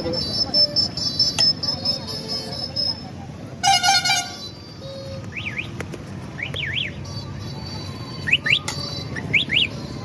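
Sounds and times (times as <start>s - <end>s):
low hum of street noise: 0.0s - 10.0s.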